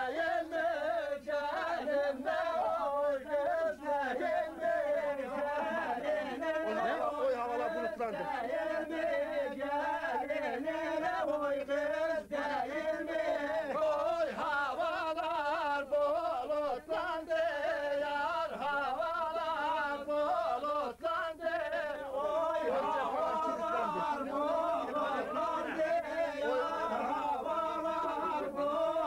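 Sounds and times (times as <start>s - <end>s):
men singing without instruments: 0.0s - 29.0s.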